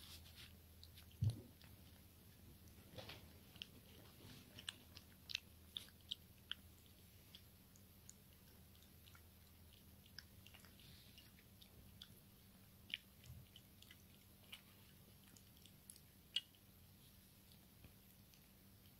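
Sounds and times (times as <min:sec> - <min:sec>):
puppy eating from a bowl: 0:00.0 - 0:18.9.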